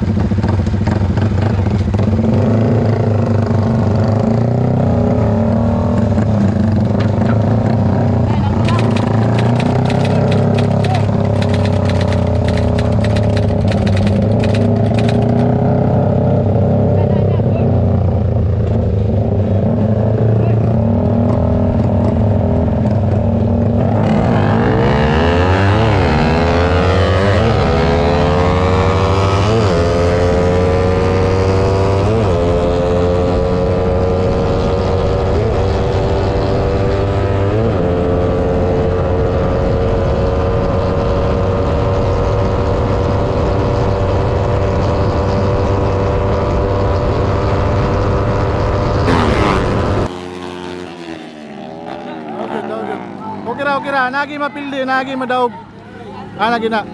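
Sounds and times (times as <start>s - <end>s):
motorcycle engine at full throttle: 0.0s - 56.9s.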